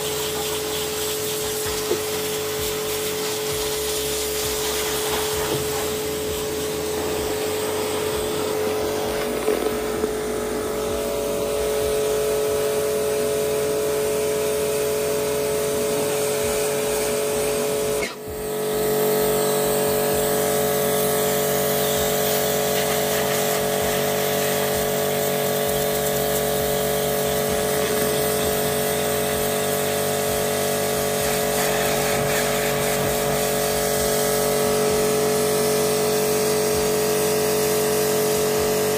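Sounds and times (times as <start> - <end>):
pressure washer motor hum: 0.0 - 38.9
water jet hissing: 0.0 - 38.9.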